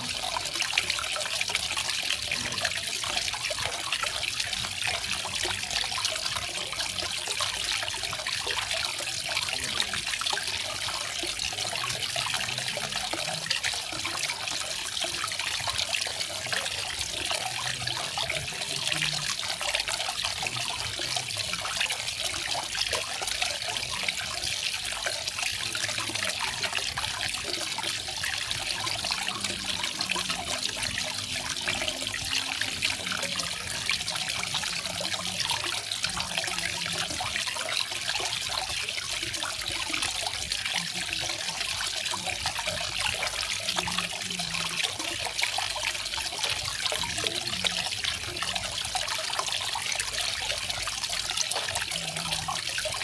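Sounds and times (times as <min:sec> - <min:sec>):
water falling and splashing: 0:10.4 - 0:53.0.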